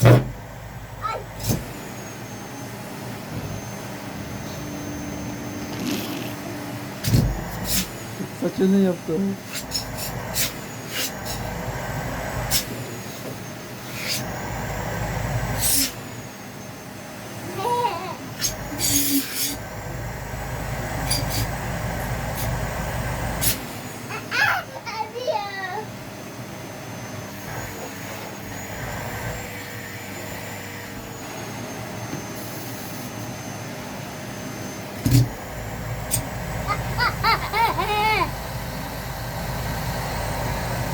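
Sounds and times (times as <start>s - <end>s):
motor whine: 0.0s - 24.2s, 25.8s - 40.9s
vacuum cleaner running: 0.0s - 40.9s.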